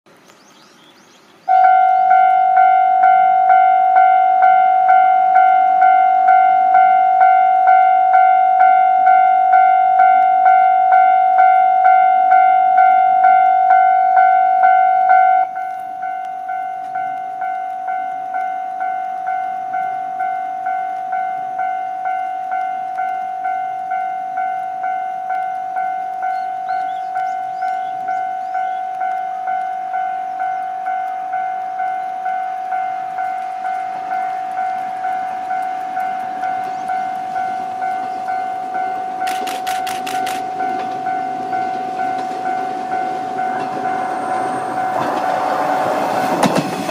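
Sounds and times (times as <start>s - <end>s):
level-crossing warning bell ringing: 1.5s - 46.9s.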